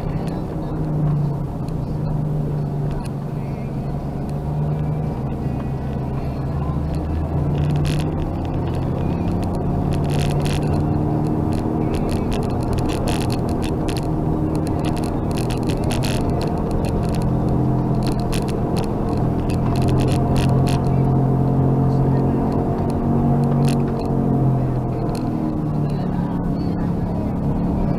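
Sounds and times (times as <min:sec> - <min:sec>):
car cabin engine and road drone: 0:00.0 - 0:27.9.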